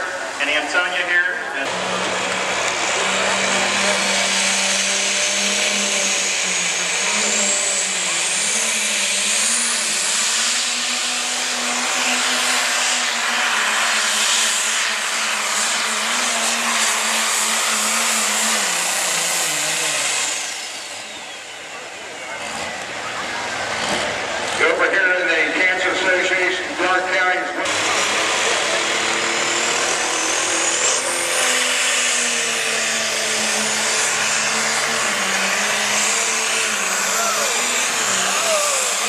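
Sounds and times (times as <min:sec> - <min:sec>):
diesel engine running hard: 0:00.0 - 0:39.0
high turbo whine: 0:00.0 - 0:39.0.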